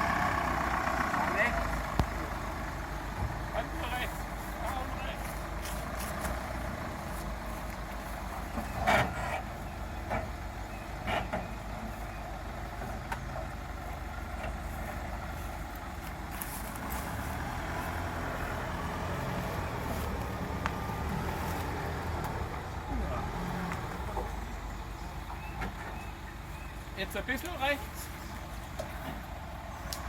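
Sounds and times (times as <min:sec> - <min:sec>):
off-road vehicle engine running low: 0:00.0 - 0:30.0.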